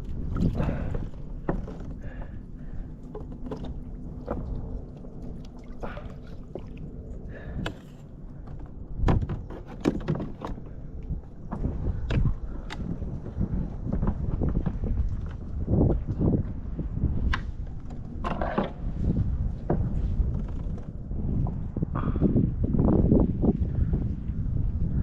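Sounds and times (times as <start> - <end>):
knocks and clatter on kayak: 0.0 - 6.7, 7.4 - 21.6
low rumble of water and wind: 0.0 - 25.0.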